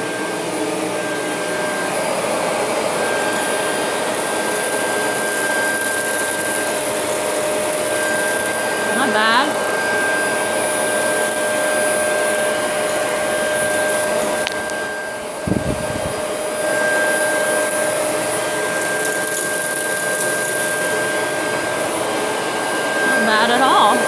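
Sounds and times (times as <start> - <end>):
vacuum cleaner whining: 0.0 - 24.0.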